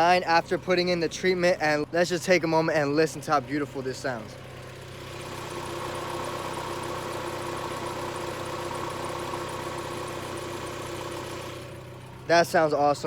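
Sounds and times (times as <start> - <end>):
car engine idling: 0.0 - 13.0
engine ticking: 0.0 - 13.0.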